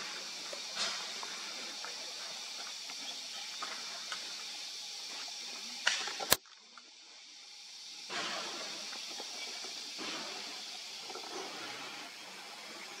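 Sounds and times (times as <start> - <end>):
forest ambience hiss: 0.0 - 13.0.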